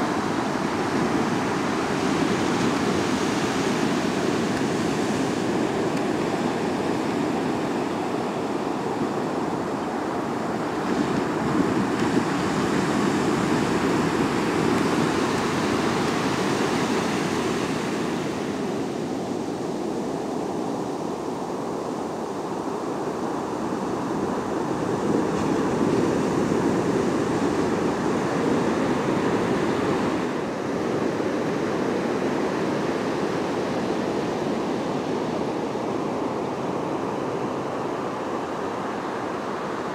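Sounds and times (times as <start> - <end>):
surf washing up a beach: 0.0 - 39.9.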